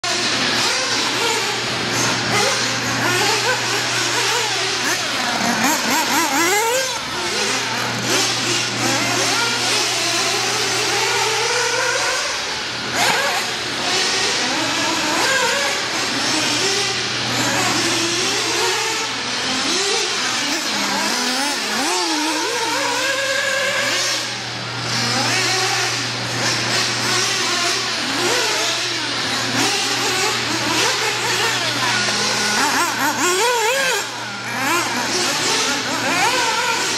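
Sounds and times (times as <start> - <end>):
rc car motors whining: 0.0 - 36.9.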